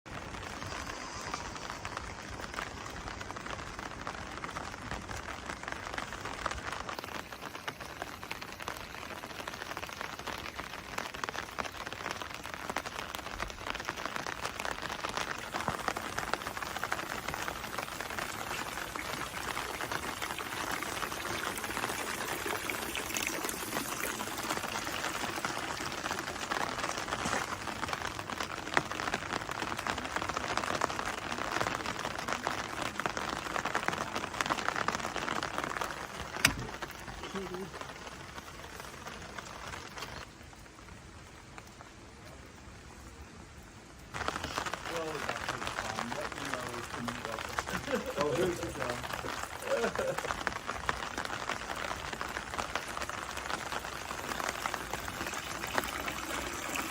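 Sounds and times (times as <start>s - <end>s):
steady rain pattering: 0.0s - 56.9s.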